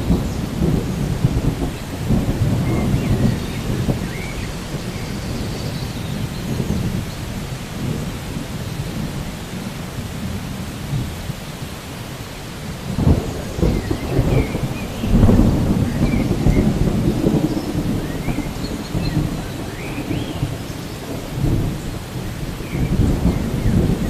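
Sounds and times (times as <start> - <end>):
low rolling thunder: 0.0 - 11.8, 12.4 - 24.0
steady rain: 0.0 - 24.0.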